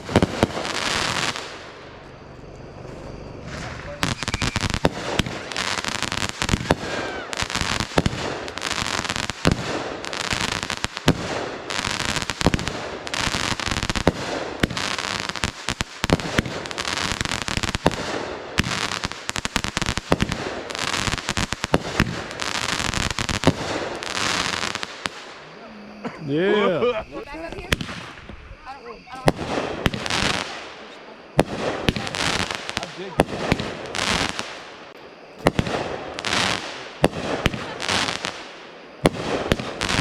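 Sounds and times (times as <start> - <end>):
fireworks bangs: 0.0 - 25.6, 27.4 - 40.0
fireworks crackling and hissing: 0.0 - 40.0.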